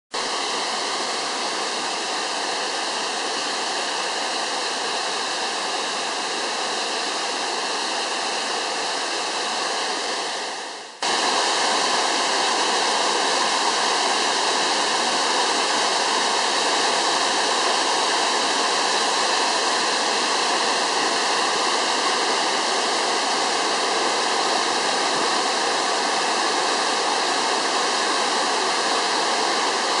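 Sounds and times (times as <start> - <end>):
waterfall rushing: 0.2 - 30.0.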